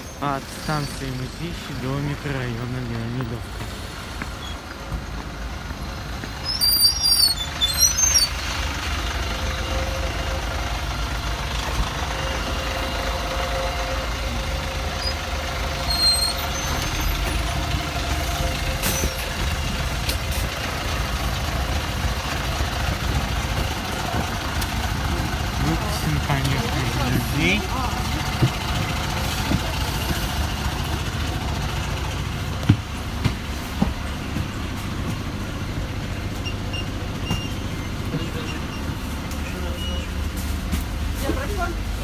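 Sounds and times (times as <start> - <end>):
brakes squeaking: 0.0 - 41.9
bus engine idling: 0.0 - 42.0.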